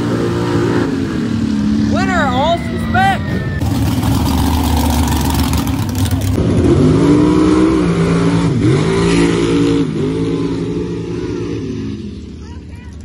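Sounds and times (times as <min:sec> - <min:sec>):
pickup truck engine accelerating: 0:00.0 - 0:12.4.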